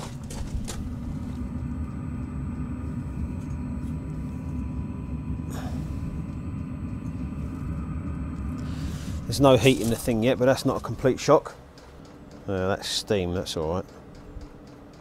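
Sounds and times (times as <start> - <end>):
heater exhaust low rumble: 0.0 - 15.0.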